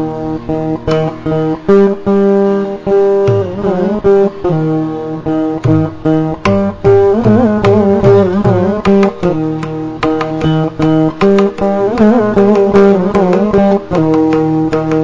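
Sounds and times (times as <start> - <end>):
veena melody: 0.0 - 15.0.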